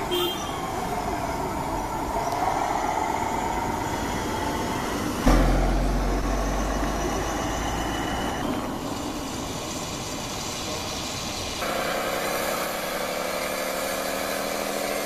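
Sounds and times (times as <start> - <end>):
motor with wavering whine: 0.7 - 15.0.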